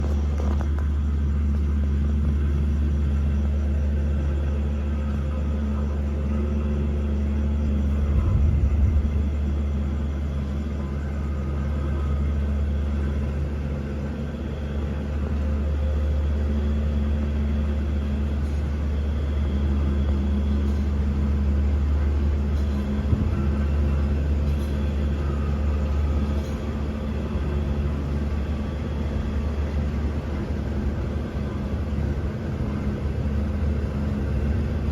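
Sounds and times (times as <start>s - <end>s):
diesel locomotive engine hum: 0.0s - 34.9s.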